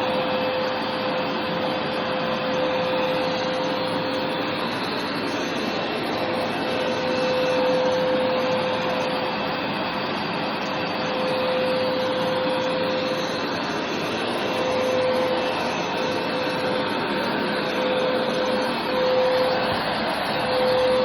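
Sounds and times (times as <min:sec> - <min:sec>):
carpet cleaning machine whine: 0:00.0 - 0:21.0.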